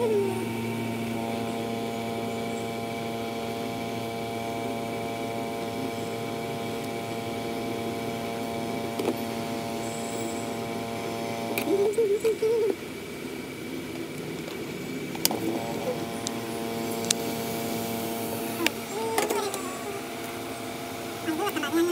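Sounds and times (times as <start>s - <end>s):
hot-air blower fan hum: 0.0s - 21.9s.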